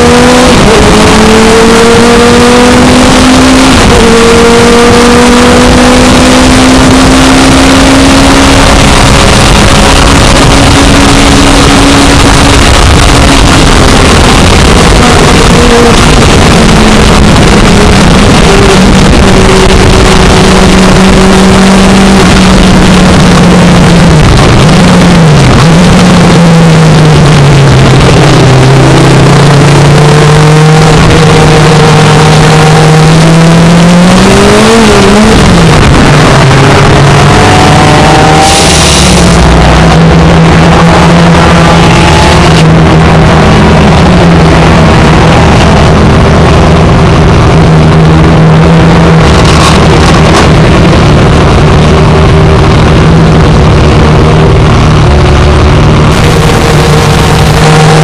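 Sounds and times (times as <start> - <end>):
race car engine: 0.0 - 58.0
wind and tyre noise: 0.0 - 58.0.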